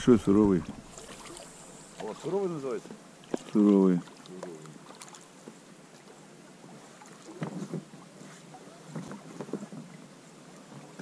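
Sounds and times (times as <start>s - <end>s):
faint water noise: 0.0s - 11.0s
light knocks and splashes: 0.5s - 11.0s.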